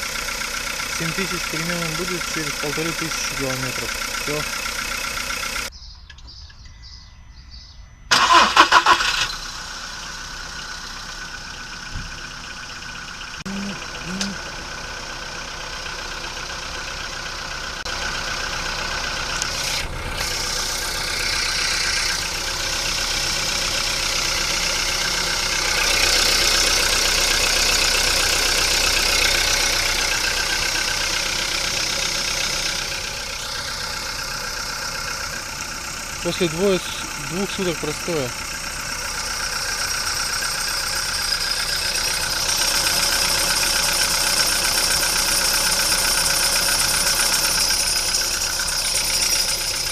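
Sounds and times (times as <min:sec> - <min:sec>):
starter cranking engine: 0:00.0 - 0:06.4, 0:08.1 - 0:14.8, 0:17.7 - 0:49.9
car engine idling: 0:00.0 - 0:49.9.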